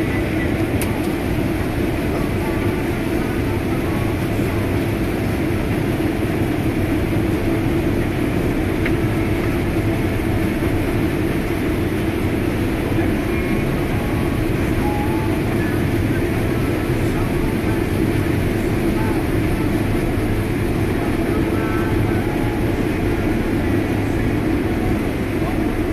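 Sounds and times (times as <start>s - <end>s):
combine harvester engine drone: 0.0s - 25.9s.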